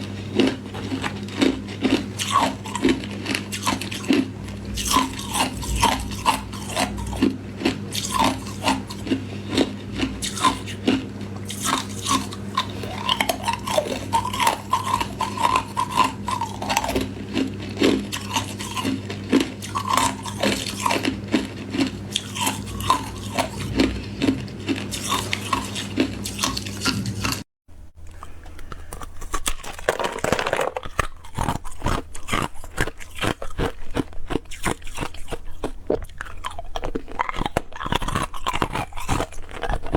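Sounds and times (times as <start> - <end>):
ice cubes crunched and chewed: 0.0 - 27.4, 28.1 - 39.9.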